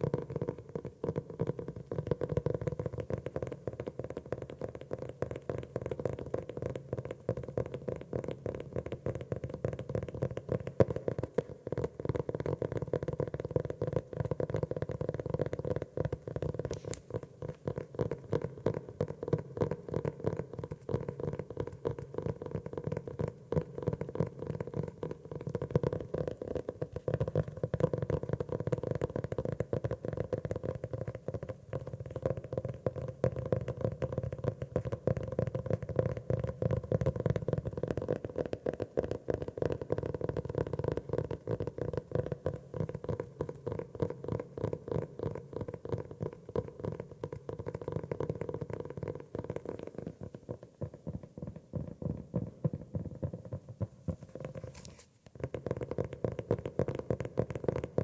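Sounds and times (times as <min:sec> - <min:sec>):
rapid tapping on notebook: 0:00.1 - 0:58.0.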